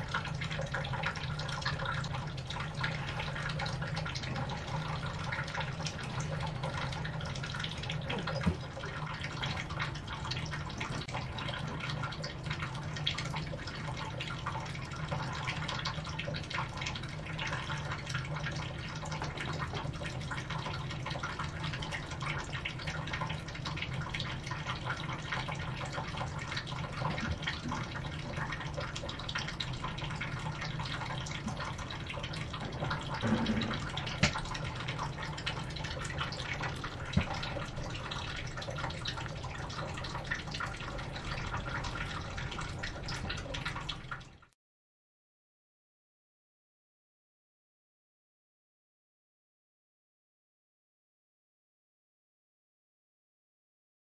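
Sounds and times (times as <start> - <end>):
continuous low hum: 0.0 - 44.5
water trickling and dripping: 0.0 - 44.5.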